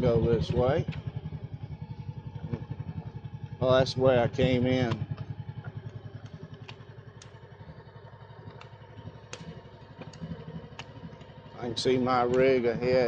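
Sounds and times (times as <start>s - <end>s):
motorcycle engine rumbling: 0.0s - 13.0s
sharp ticks: 0.3s - 1.4s, 2.4s - 13.0s.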